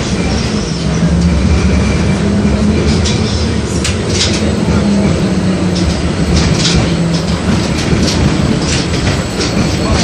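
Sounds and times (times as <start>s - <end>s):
tram rumbling along track: 0.0s - 10.0s
wheels clacking over rails: 0.0s - 10.0s.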